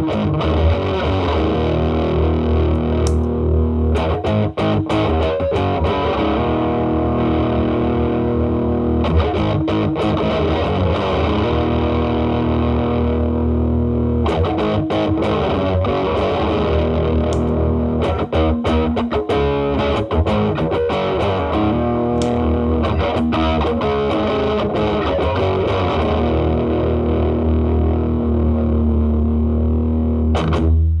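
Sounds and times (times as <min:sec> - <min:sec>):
distorted electric guitar: 0:00.0 - 0:31.0.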